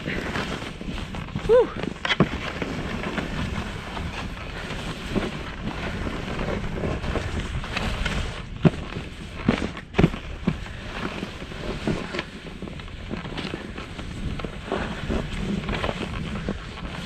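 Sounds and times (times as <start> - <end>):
skis scraping over snow: 0.0 - 17.0
wind on microphone: 0.0 - 17.0.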